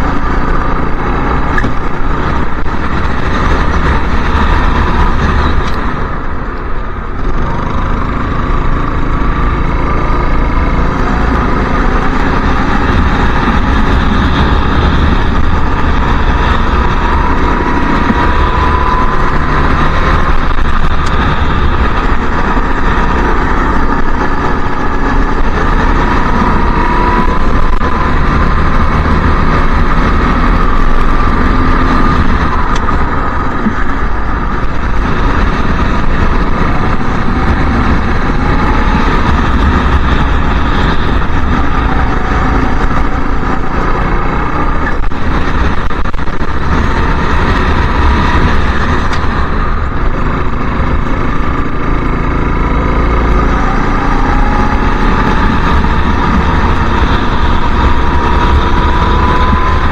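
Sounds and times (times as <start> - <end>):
kart engine revving: 0.0 - 59.9
wind rumble on microphone: 0.0 - 59.9.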